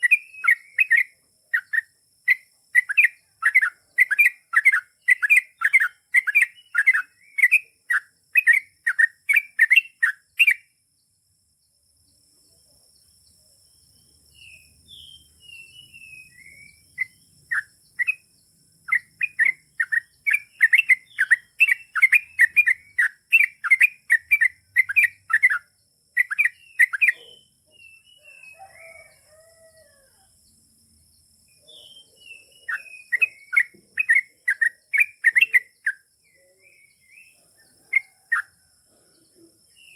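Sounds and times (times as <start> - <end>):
bird song chattering: 0.0 - 29.6, 30.4 - 39.9.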